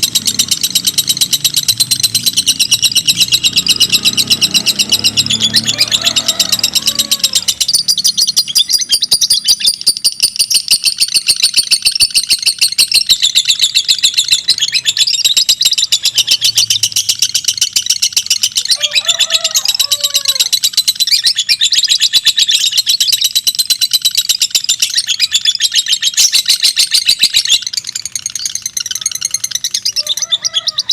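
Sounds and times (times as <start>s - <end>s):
lovebirds trilling: 0.0s - 30.9s.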